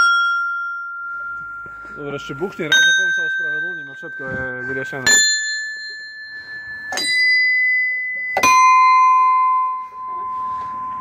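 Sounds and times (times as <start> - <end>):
small metal bells ringing: 0.0 - 11.0.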